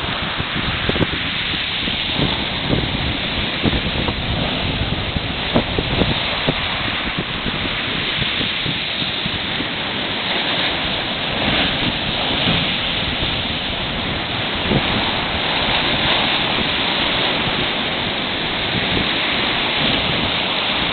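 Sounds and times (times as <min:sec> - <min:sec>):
sea surf washing on shore: 0:00.0 - 0:20.9
wind buffeting microphone: 0:00.0 - 0:20.9.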